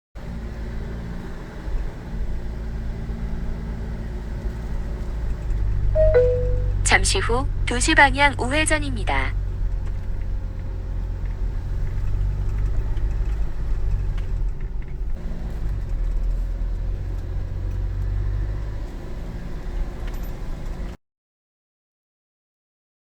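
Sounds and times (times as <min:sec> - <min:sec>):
car engine and road noise: 0:00.2 - 0:21.0.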